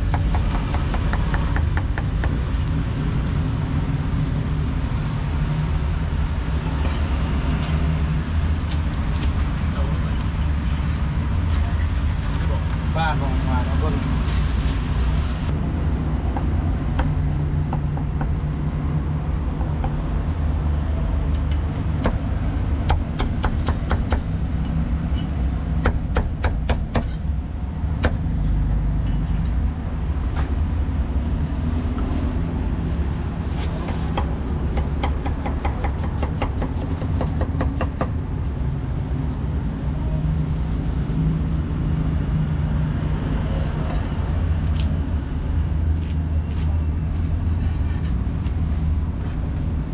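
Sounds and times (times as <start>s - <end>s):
low rumble of street traffic: 0.0s - 49.9s.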